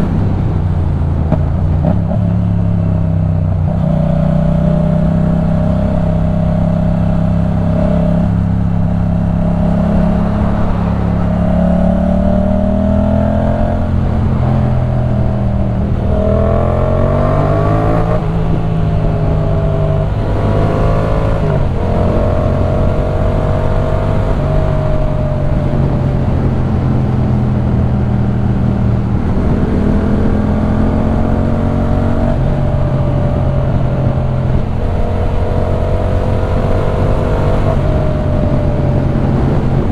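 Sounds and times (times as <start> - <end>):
engine pitch dropping at upshifts: 0.0 - 39.9
motorcycle engine accelerating: 0.0 - 39.9.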